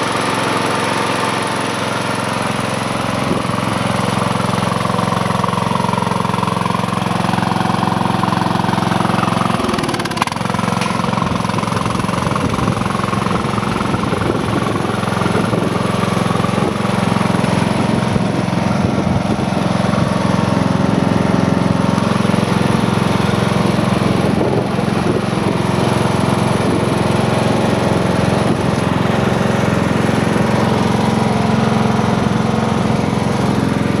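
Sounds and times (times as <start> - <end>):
riding lawn mower engine: 0.0 - 34.0.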